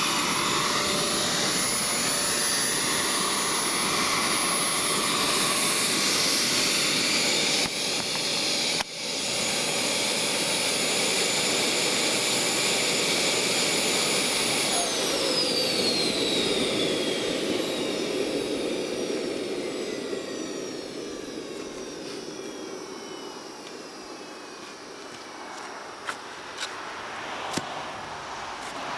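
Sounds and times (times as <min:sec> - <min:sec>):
jet turbine whine: 0:00.0 - 0:28.9.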